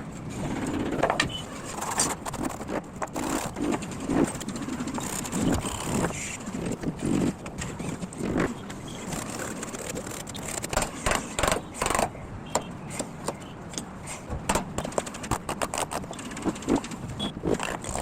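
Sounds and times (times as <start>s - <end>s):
knocks and scrapes on wood: 0.4s - 18.0s.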